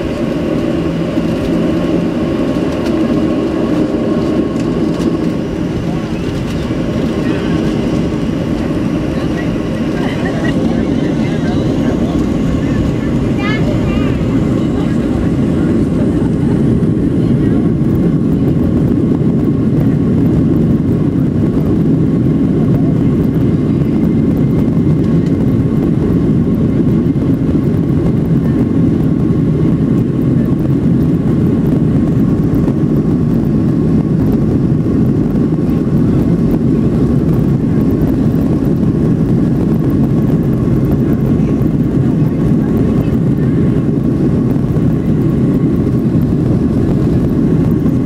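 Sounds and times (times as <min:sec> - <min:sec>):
faint engine whine: 0:00.0 - 0:48.0
jet engines rumbling: 0:00.0 - 0:48.0.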